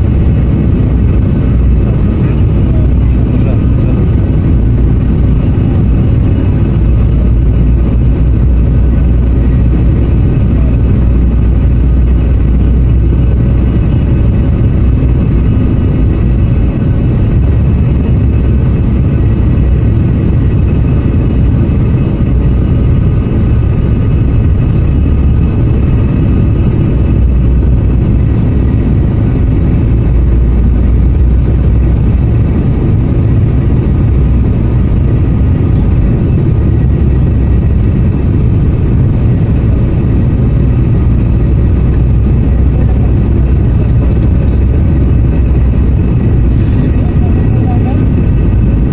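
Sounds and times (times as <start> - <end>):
airliner engines rumbling: 0.0 - 48.9.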